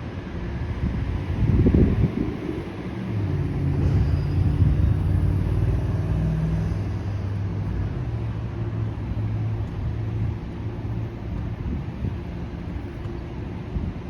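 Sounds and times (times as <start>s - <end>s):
vehicle passing with low rumble: 0.6s - 13.2s.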